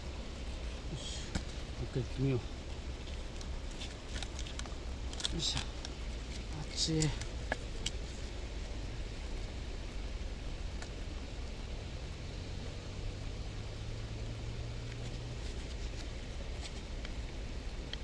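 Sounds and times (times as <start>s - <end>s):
faint low hum: 0.0s - 18.0s
steady background noise: 0.0s - 18.0s.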